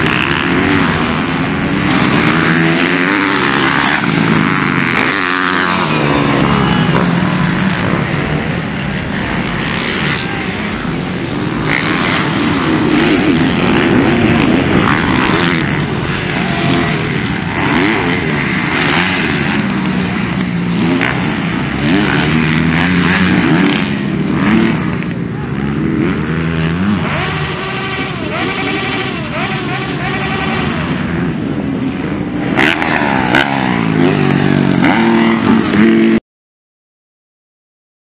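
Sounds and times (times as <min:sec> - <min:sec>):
dirt bike engines revving: 0:00.0 - 0:36.2.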